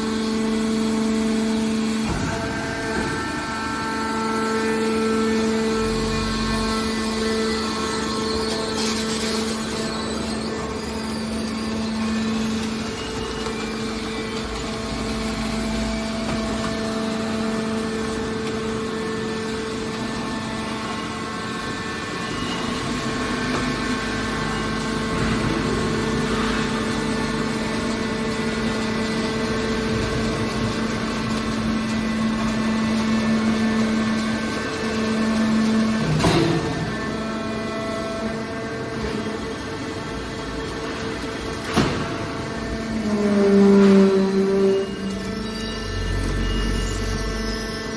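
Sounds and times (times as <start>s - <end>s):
hydraulic baler machine hum: 0.0s - 47.9s.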